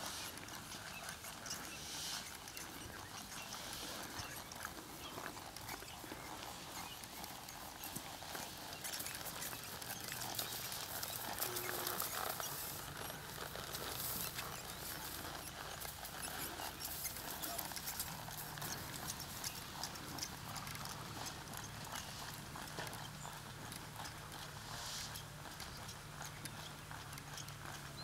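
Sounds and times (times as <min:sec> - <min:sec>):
horse hooves on dirt: 0:00.0 - 0:28.0.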